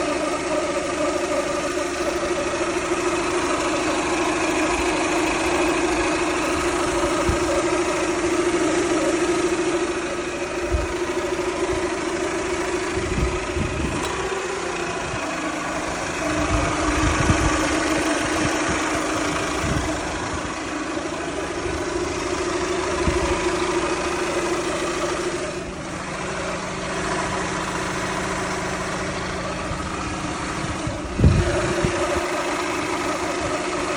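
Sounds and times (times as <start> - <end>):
car engine idling with whine: 0.0 - 33.9.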